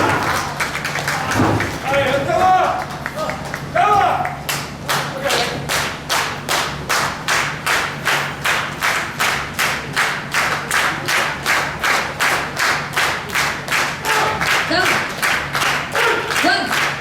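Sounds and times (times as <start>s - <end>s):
crowd clapping in unison: 0.0s - 17.0s.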